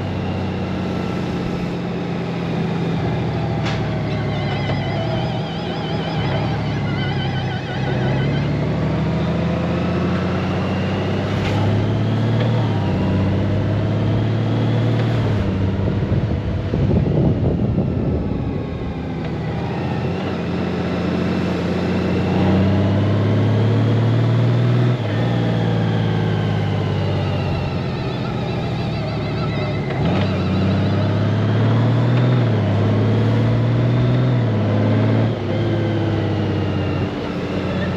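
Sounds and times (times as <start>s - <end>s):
motorcycle engine shifting gears: 0.0s - 37.9s.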